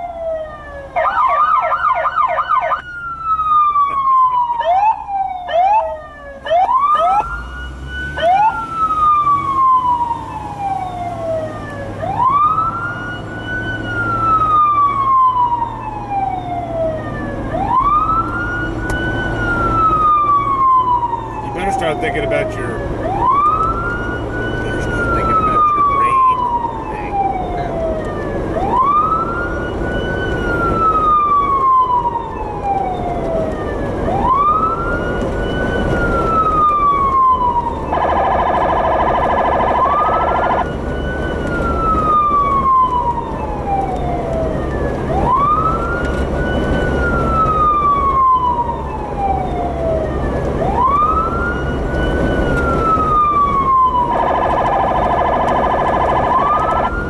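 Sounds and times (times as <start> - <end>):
low vehicle rumble: 0.0 - 57.0
police siren wailing: 0.0 - 57.0.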